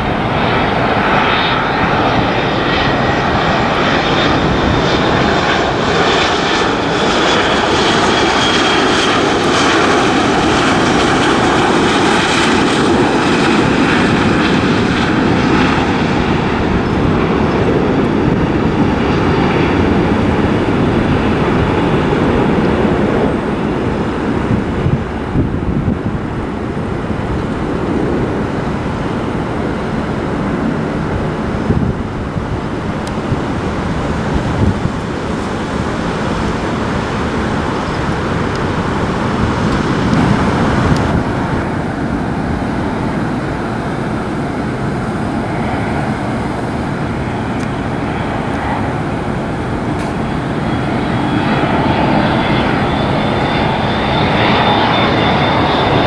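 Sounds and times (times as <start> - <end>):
high steady engine whine: 0.0 - 56.0
jet airliner engines: 0.0 - 56.0.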